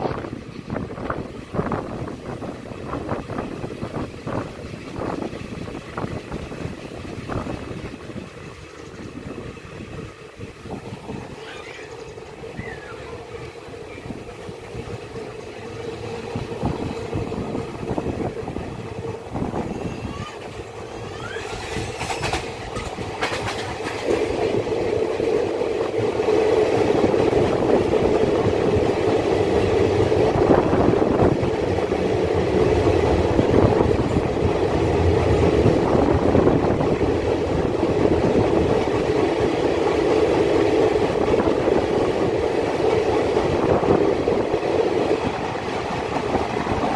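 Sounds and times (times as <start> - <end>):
steady train hum: 0.0 - 46.9
train wheels clattering on rails: 0.0 - 46.9.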